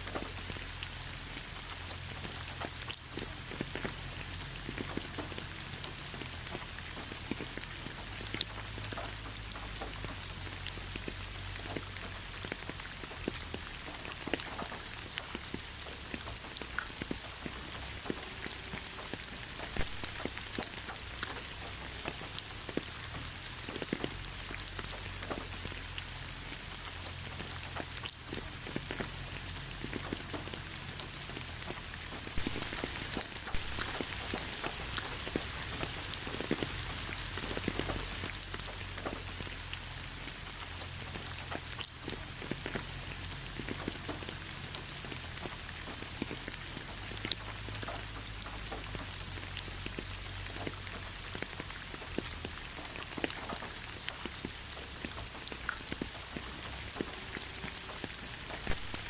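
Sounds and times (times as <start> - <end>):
raindrops pattering on a surface: 0.0 - 59.0
steady rain hiss: 0.0 - 59.0.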